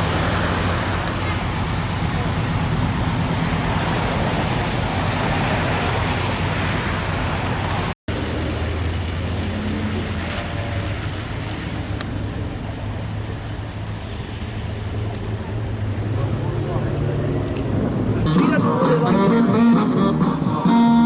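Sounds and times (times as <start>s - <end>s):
car engines humming: 0.0s - 21.0s
road noise: 0.0s - 21.0s.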